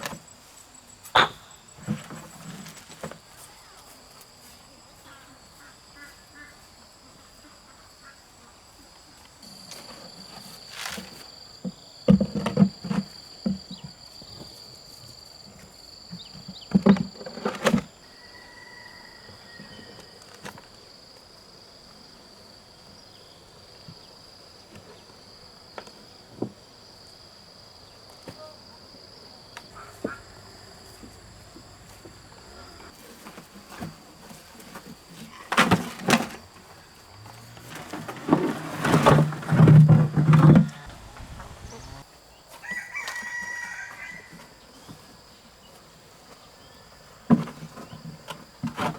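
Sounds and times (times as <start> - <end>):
insects droning: 0.0 - 48.9.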